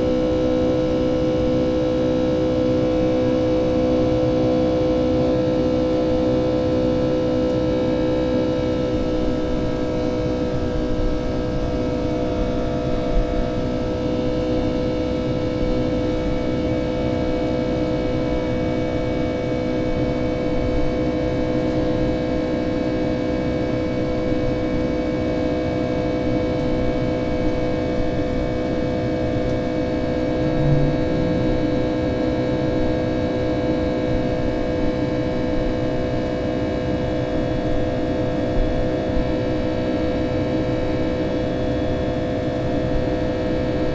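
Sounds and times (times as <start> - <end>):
jet engines droning in cabin: 0.0 - 43.9.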